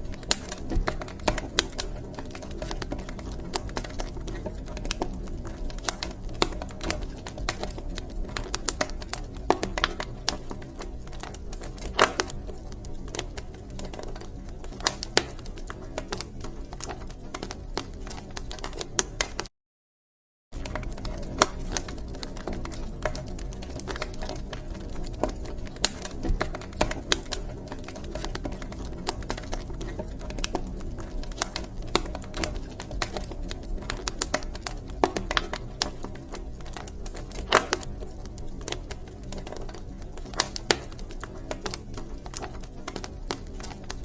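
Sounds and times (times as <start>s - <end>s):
wood fire crackling: 0.0s - 19.5s, 20.6s - 44.0s.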